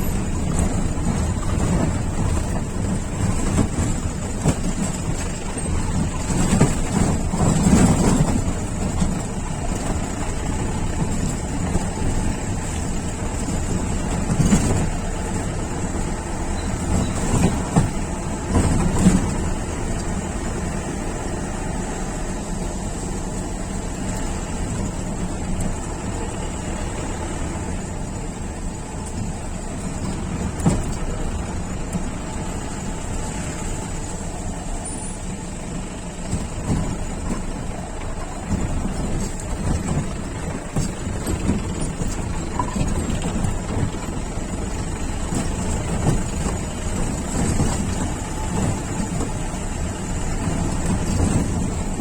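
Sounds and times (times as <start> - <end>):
off-road vehicle engine running: 0.0 - 52.0
vehicle bumps: 0.0 - 52.0.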